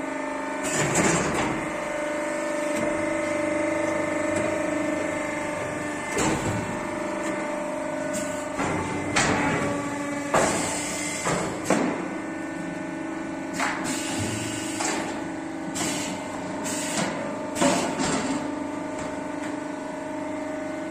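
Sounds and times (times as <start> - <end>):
machine motor hum: 0.0 - 20.9.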